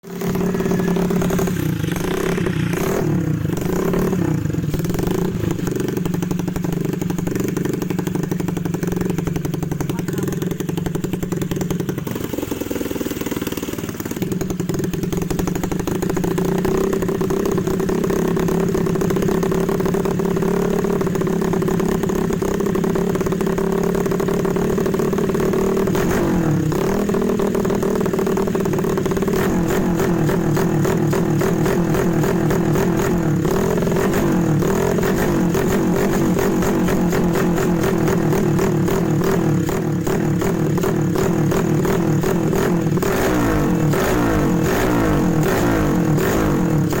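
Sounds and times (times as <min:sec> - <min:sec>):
scooter engine revving: 0:00.0 - 0:47.0.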